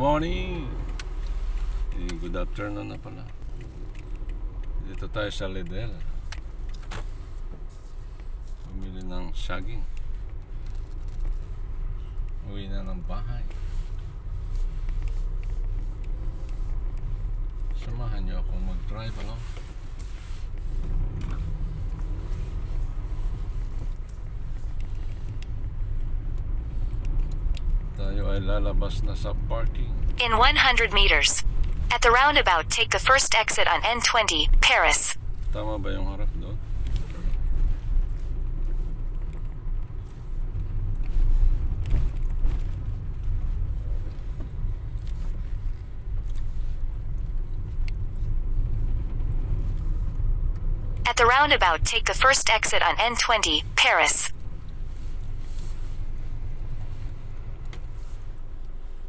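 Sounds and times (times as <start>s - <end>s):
car engine and tyres rumbling: 0.0s - 30.2s, 35.2s - 51.0s, 54.4s - 59.0s.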